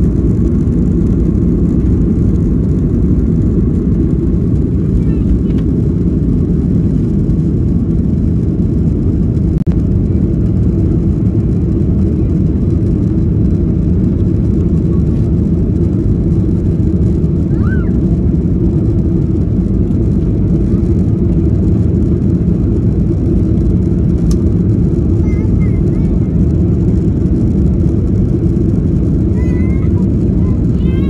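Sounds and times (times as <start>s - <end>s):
airplane cabin roar: 0.0s - 31.0s.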